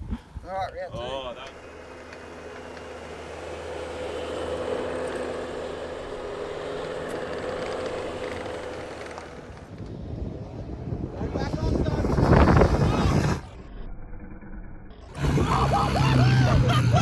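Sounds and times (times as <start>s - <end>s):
small dirt bike engine: 0.8s - 17.0s.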